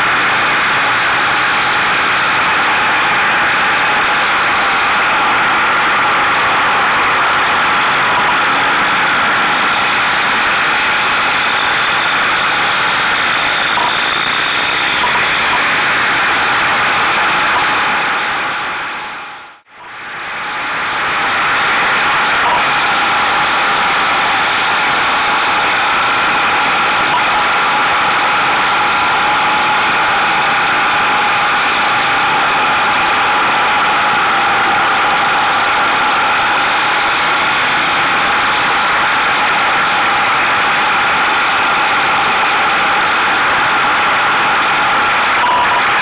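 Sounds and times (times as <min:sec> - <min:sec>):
road noise: 0:00.0 - 0:46.0.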